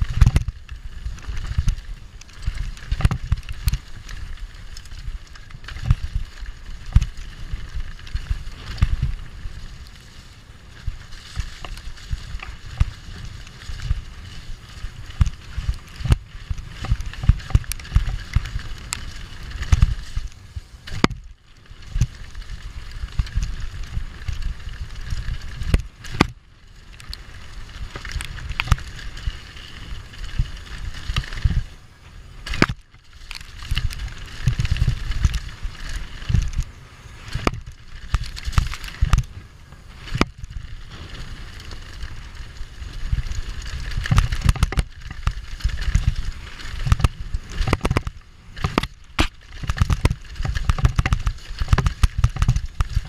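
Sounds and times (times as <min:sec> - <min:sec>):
bike knocking and rattling: 0:00.0 - 0:53.0
tyres rolling on dirt: 0:00.0 - 0:53.0.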